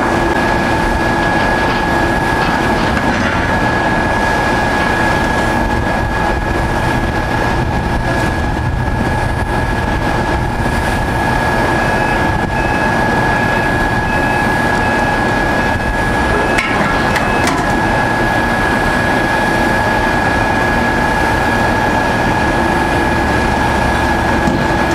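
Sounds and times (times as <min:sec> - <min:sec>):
excavator engine and hydraulics: 0:00.0 - 0:24.9
high hydraulic whine: 0:00.0 - 0:24.9.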